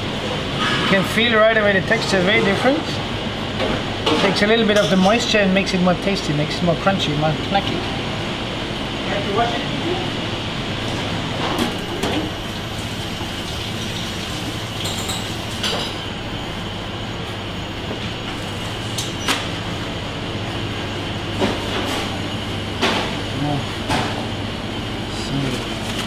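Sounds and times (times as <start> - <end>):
ventilation hum: 0.0 - 26.0.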